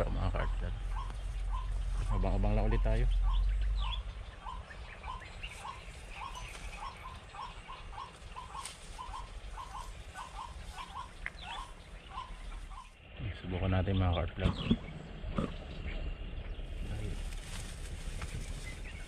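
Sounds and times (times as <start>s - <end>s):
small bird chirping: 0.1s - 19.0s.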